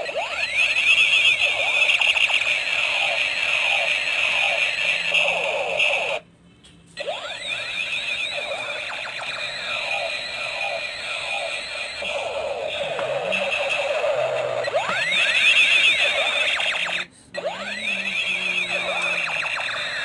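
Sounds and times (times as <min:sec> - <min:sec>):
siren-like electronic tone: 0:00.0 - 0:06.2, 0:07.0 - 0:20.0
toy laser gun pew tones: 0:00.0 - 0:06.2, 0:07.0 - 0:20.0.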